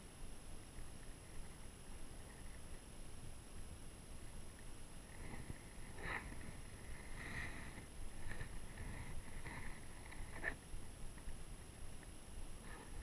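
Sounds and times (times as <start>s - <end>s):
faint high whine: 0.0s - 13.0s
low wind: 0.0s - 13.0s
water around a boat: 0.4s - 13.0s.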